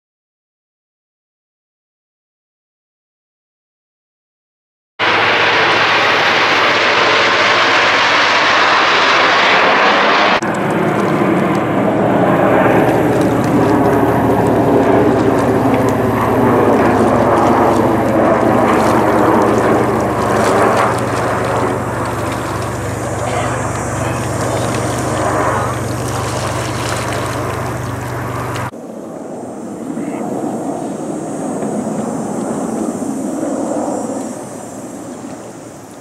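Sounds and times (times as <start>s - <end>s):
jets flying overhead: 5.0s - 36.0s
low drone: 5.0s - 36.0s.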